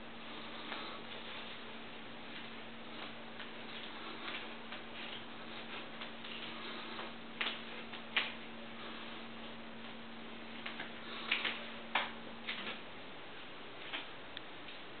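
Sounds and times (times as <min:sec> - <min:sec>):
low hum: 0:00.0 - 0:15.0
room hiss: 0:00.0 - 0:15.0.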